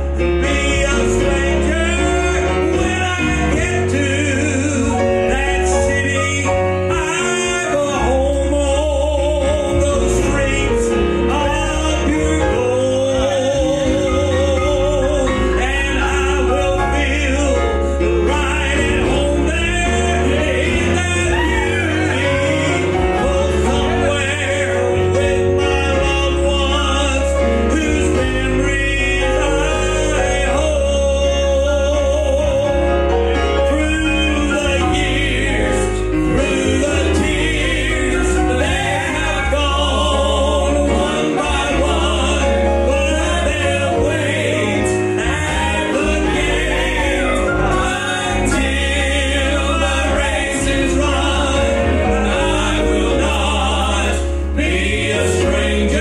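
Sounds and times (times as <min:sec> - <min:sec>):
instrumental accompaniment with bass: 0:00.0 - 0:56.0
man singing with vibrato: 0:00.0 - 0:56.0.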